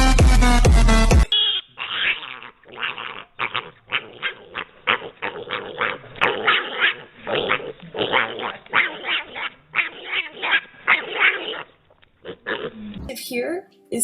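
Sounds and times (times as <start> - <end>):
dog growling and barking: 1.8 - 13.1.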